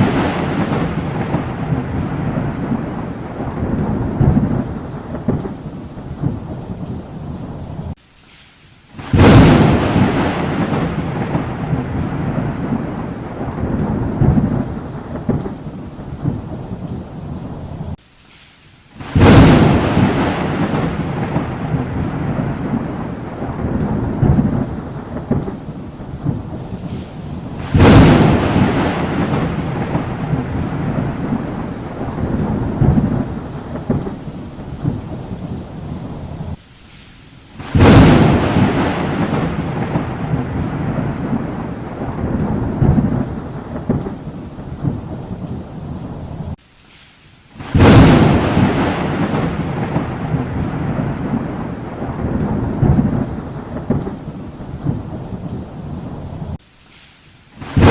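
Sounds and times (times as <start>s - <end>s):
thunderclaps rolling into rumble: 0.0s - 8.0s, 9.0s - 18.0s, 19.0s - 36.6s, 37.6s - 46.6s, 47.6s - 56.6s, 57.6s - 57.9s
steady rain: 0.0s - 57.9s.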